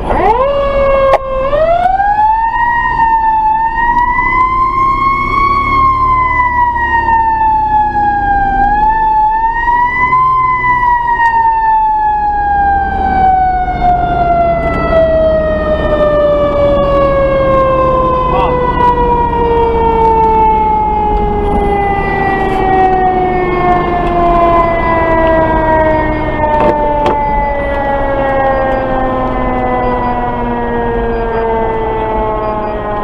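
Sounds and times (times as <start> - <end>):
fire engine siren wailing: 0.0 - 33.0
truck engine running: 0.0 - 33.0.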